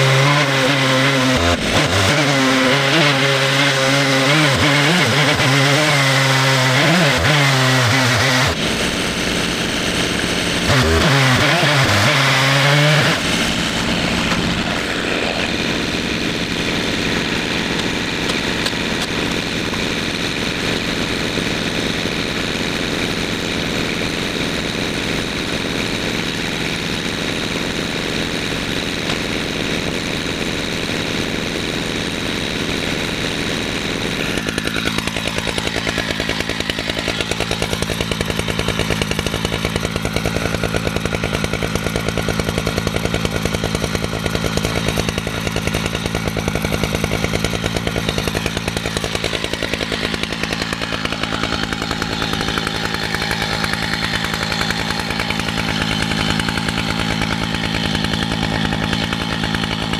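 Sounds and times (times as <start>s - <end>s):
chainsaw engine running: 0.0s - 59.9s.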